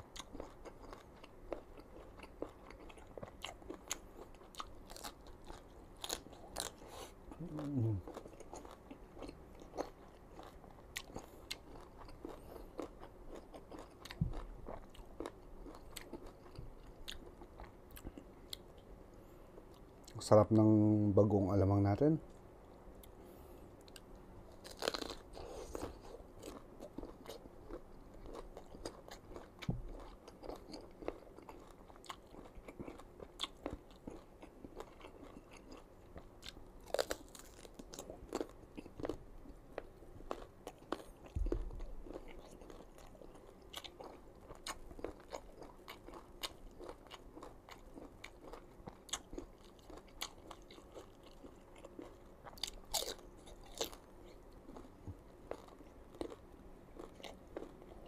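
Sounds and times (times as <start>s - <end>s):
crunching and chewing of mango: 0.0s - 20.3s, 22.3s - 58.0s.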